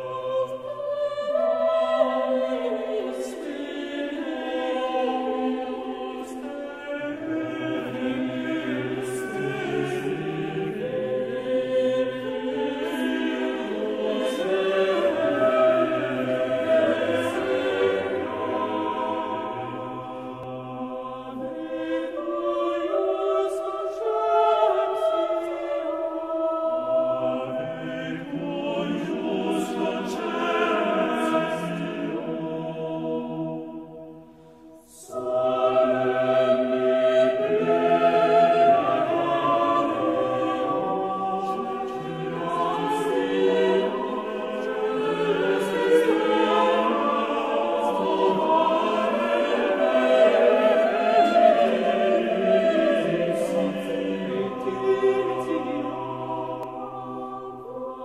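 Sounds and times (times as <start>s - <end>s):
choir singing sacred music: 0.0s - 58.0s.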